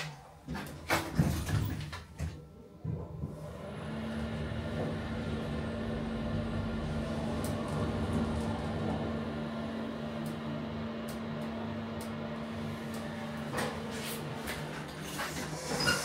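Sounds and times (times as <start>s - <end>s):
elevator machine hum: 3.0s - 16.0s.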